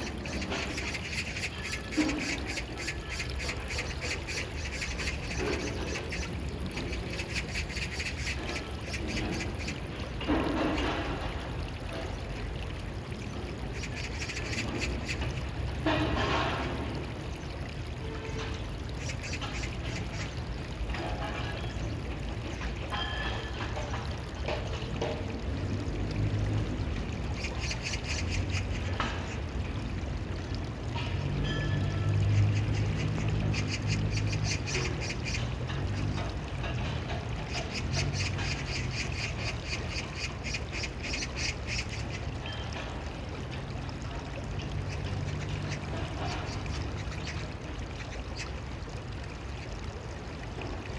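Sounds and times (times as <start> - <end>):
stream water flowing and splashing: 0.0 - 50.9.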